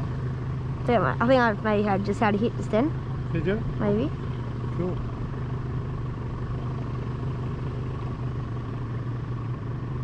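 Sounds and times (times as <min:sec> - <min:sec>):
outboard engine humming: 0:00.0 - 0:10.0.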